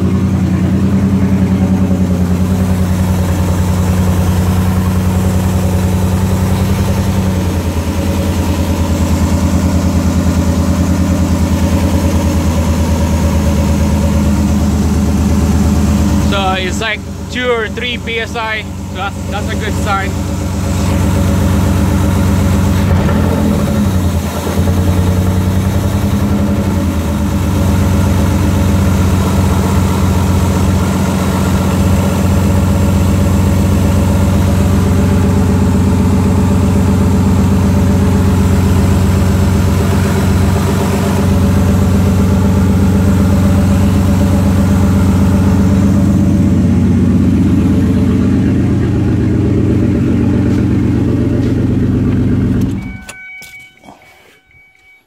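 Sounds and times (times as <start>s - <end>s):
loud car engine idling: 0.0s - 55.0s.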